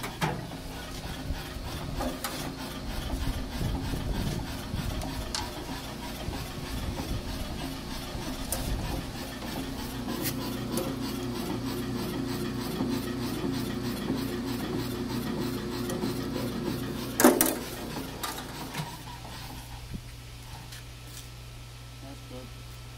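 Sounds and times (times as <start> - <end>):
planer machine humming: 0.0 - 20.0.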